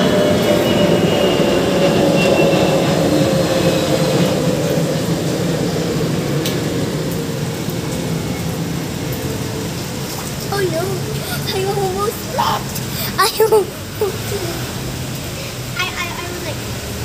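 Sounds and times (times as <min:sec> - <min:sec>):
rain falling: 0:02.8 - 0:17.0.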